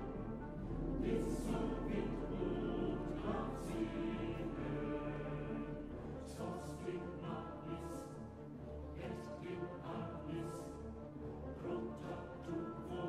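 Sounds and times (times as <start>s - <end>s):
choral music with held notes: 0.0s - 13.0s.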